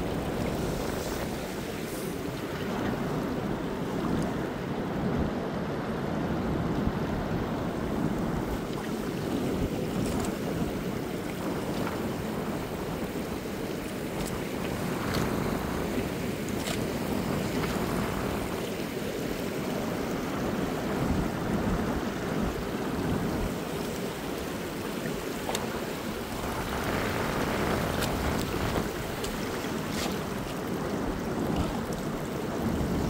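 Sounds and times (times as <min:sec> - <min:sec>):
ocean surf washing on beach: 0:00.0 - 0:33.0
wind rumbling on microphone: 0:00.0 - 0:33.0.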